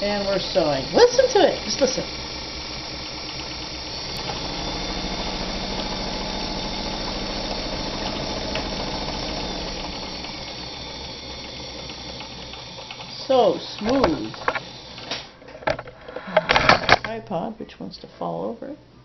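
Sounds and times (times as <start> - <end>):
sewing machine running: 0.0 - 15.4.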